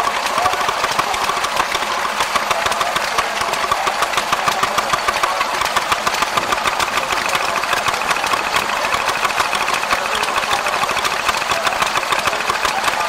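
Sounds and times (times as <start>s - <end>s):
stationary engine clattering: 0.0s - 13.0s.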